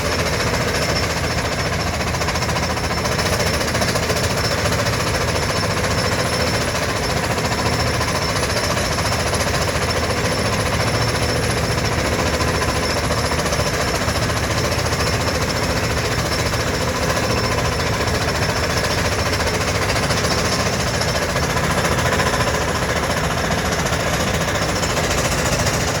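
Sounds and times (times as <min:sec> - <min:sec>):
percussion drill rig hammering: 0:00.0 - 0:26.0.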